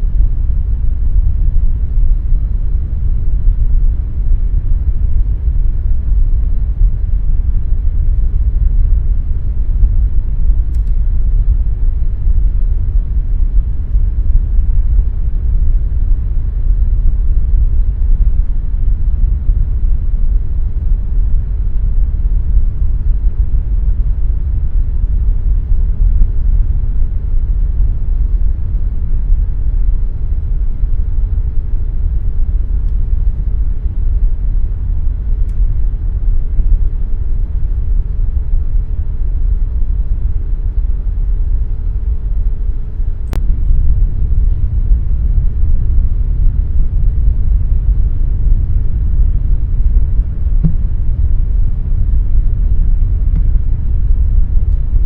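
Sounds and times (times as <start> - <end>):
air conditioner rumbling: 0.0 - 55.0
faint hum: 0.0 - 55.0.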